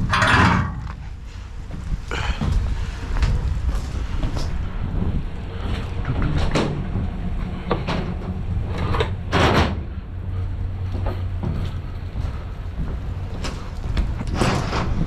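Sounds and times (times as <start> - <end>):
knocks and clanks: 0.0 - 10.1, 10.8 - 15.0
steady low hum: 0.0 - 15.0.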